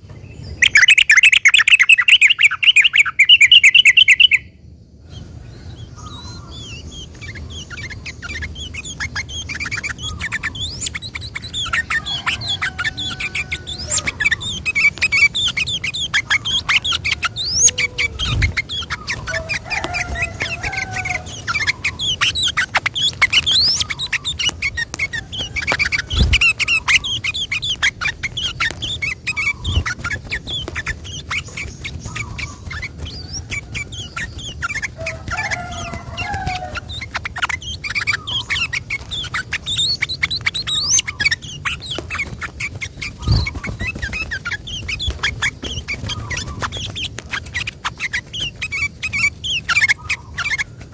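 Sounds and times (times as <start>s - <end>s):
bulbul singing chattering notes: 0.5s - 4.5s, 6.0s - 50.9s.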